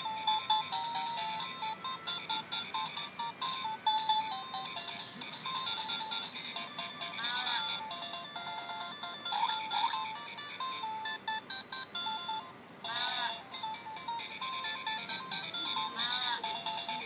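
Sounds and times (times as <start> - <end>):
toy beeping melody: 0.0 - 17.0.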